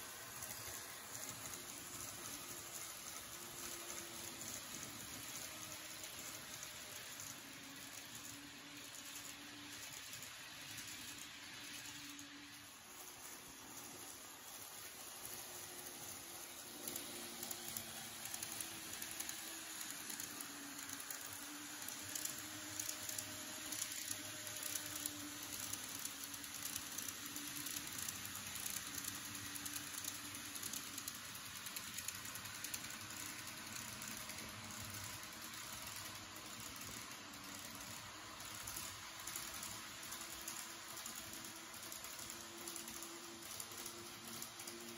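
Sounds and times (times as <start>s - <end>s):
model train wheels hissing on track: 0.0s - 44.9s.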